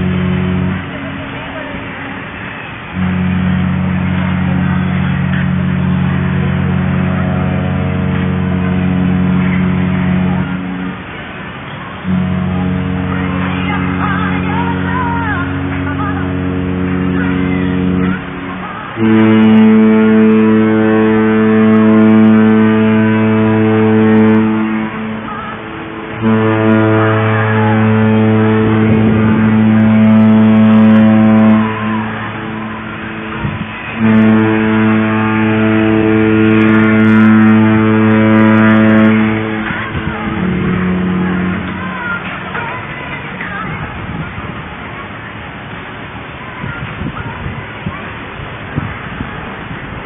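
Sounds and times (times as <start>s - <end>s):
higher-pitched ship horn: 0.0s - 49.8s
ship horn blasts: 0.0s - 50.0s.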